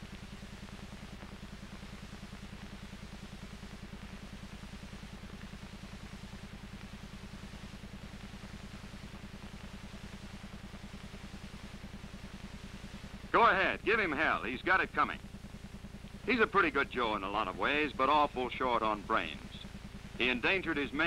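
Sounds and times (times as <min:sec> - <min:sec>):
film soundtrack hiss: 0:00.0 - 0:21.0
low hum with fast flutter: 0:00.0 - 0:21.0.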